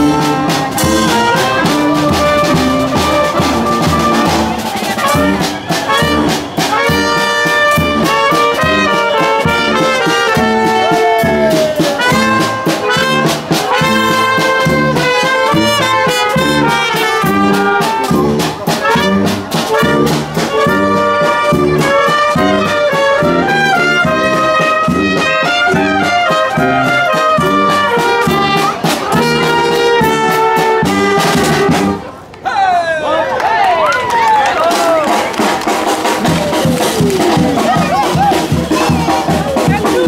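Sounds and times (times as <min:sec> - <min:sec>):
drums keeping steady beat: 0:00.0 - 0:32.1, 0:34.6 - 0:40.0
brass band playing: 0:00.0 - 0:32.2, 0:34.6 - 0:40.0.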